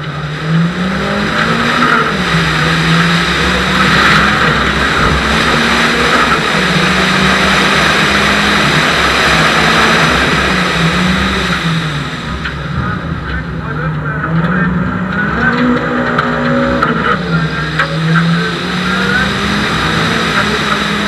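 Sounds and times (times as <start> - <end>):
rally car engine at high revs: 0.0 - 21.0
wind and road noise: 0.0 - 21.0.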